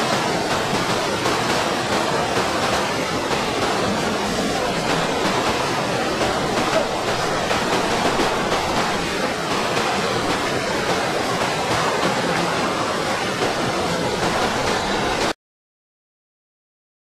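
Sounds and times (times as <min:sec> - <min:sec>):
water gushing from culvert: 0:00.0 - 0:15.4.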